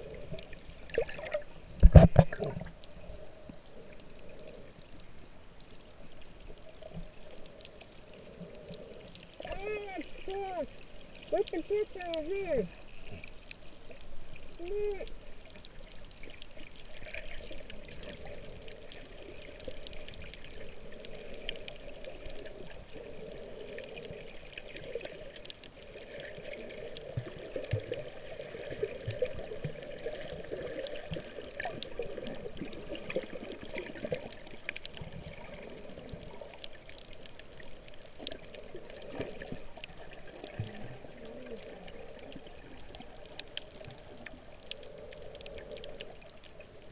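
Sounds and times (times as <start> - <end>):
faint crackling clicks: 0.0 - 46.9
muffled underwater moving water: 0.0 - 46.9.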